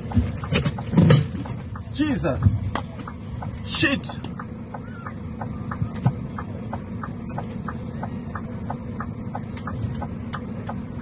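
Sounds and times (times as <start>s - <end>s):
vehicle engine idling rumble: 0.0s - 11.0s.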